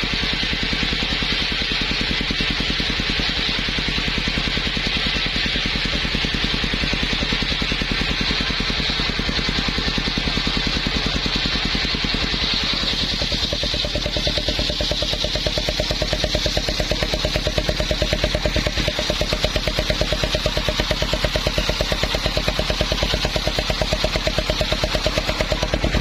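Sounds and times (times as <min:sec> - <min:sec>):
circular saw running: 0:00.0 - 0:26.0.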